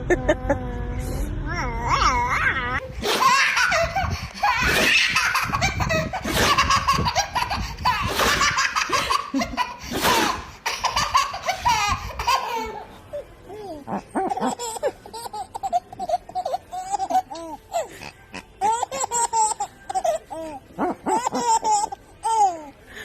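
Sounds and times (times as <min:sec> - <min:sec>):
baby laughing: 0:02.2 - 0:18.0, 0:18.6 - 0:22.7.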